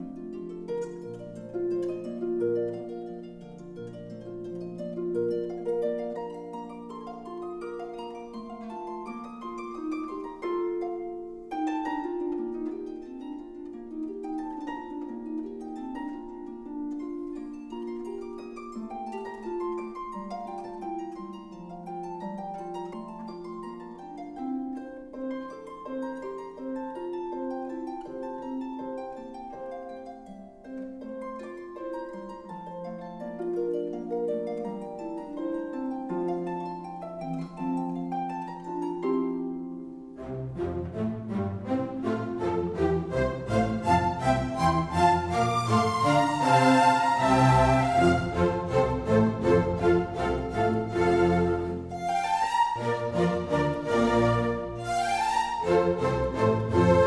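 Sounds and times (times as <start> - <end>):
plucked string music: 0.0 - 57.0.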